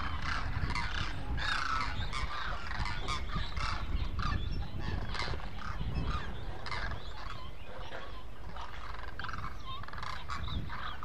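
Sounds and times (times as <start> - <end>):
cranes calling: 0.0 - 11.0.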